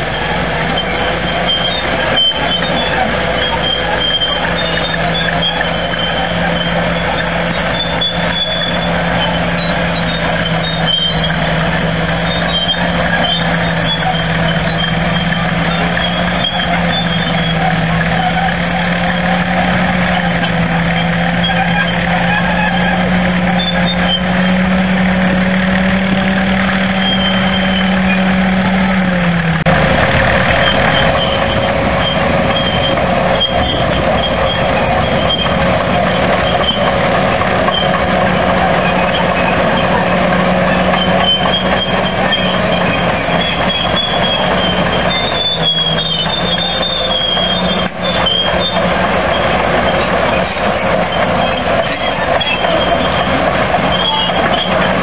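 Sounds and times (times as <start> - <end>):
bulldozer diesel engine: 0.0 - 55.0
high squeaks: 0.0 - 55.0.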